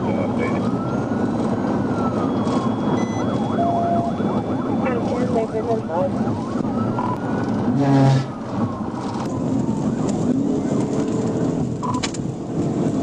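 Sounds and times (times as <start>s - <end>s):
siren wailing: 0.0s - 12.0s
siren blast: 0.0s - 12.1s
car engine and road noise: 0.0s - 13.0s.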